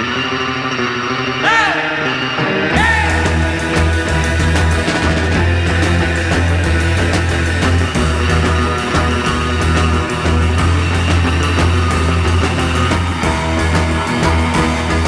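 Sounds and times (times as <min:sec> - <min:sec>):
electric guitar: 0:00.0 - 0:15.0
bass line: 0:01.4 - 0:15.0
drums: 0:01.4 - 0:15.0.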